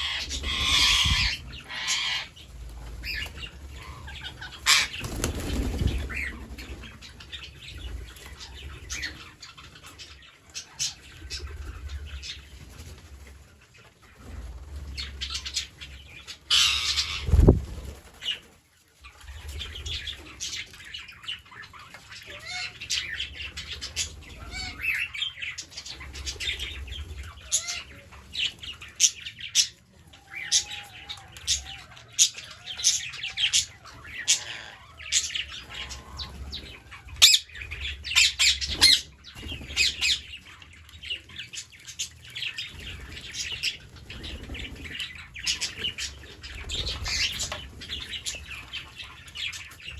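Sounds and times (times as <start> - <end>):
parrots squawking and chirping: 0.0 - 9.8, 15.3 - 17.6, 19.7 - 49.9.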